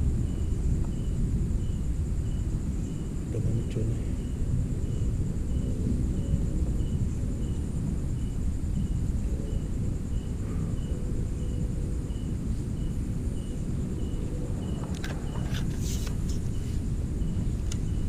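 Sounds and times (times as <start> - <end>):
insects trilling: 0.0 - 18.0
short insect chirps: 0.3 - 18.0.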